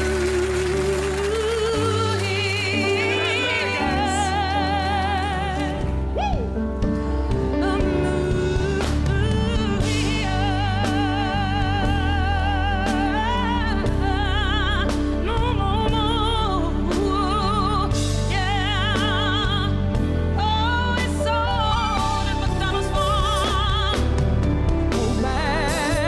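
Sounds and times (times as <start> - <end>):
woman singing with vibrato: 0.0 - 6.2, 7.6 - 26.0.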